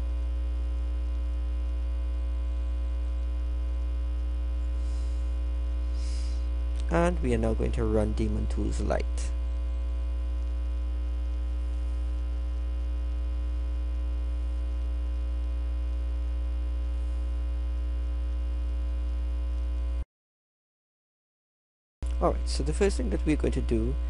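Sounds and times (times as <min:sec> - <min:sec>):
electrical mains hum: 0:00.0 - 0:20.0, 0:22.0 - 0:24.0.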